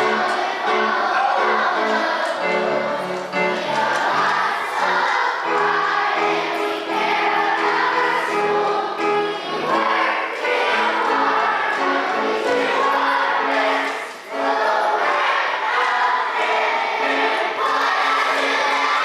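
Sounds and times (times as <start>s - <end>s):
children's choir singing: 0.0s - 19.0s
musical accompaniment: 0.0s - 19.0s.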